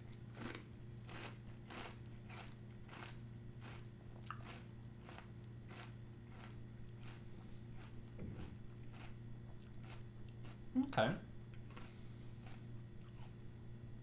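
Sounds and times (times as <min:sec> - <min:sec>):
chewing cereal crunches: 0:00.3 - 0:08.1, 0:08.8 - 0:10.6, 0:11.6 - 0:13.4.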